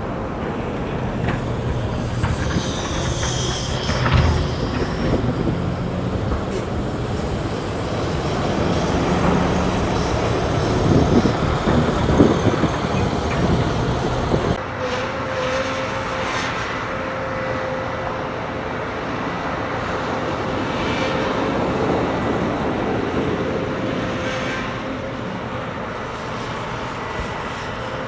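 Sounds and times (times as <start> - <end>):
rumble of passing vehicles: 0.0 - 28.0.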